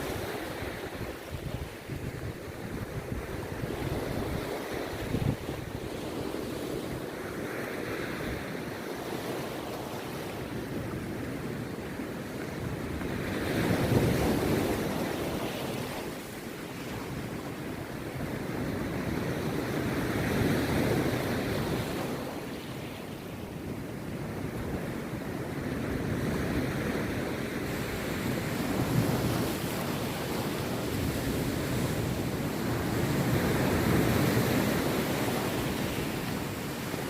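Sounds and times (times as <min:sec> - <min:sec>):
sea surf breaking: 0:00.0 - 0:10.6, 0:11.3 - 0:37.0.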